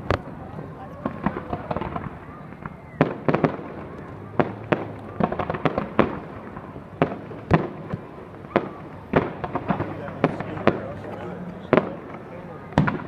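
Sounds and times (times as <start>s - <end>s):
fireworks booming and crackling: 0.0s - 13.0s.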